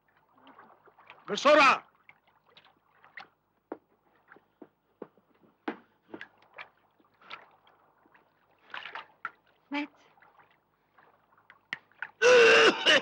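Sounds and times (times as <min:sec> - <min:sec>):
water splashing and dripping: 0:00.0 - 0:04.7, 0:06.1 - 0:12.2.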